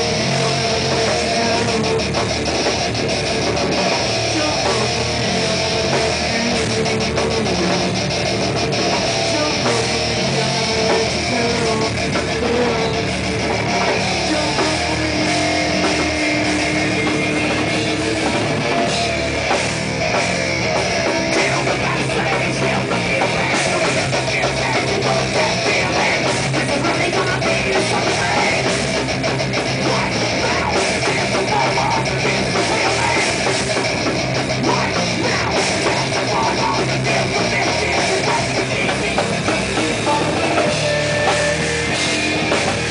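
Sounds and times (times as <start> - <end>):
heavy metal band playing: 0.0 - 42.9.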